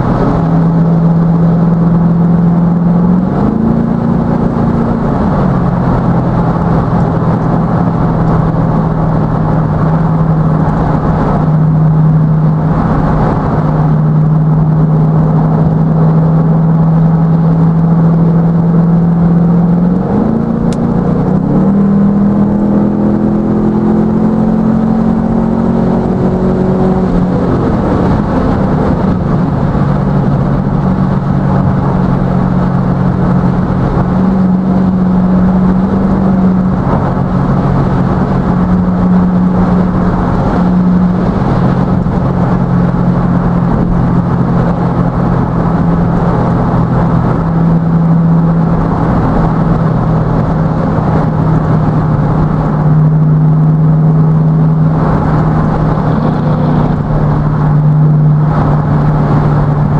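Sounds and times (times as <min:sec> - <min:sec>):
car engine drone: 0:00.0 - 0:59.9
tyre and road noise: 0:00.0 - 0:59.9.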